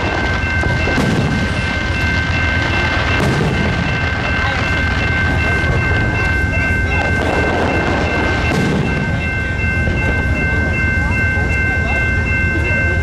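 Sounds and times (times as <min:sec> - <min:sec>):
crossing bell ringing: 0:00.0 - 0:13.0
train wheels rumbling on rails: 0:00.0 - 0:13.0.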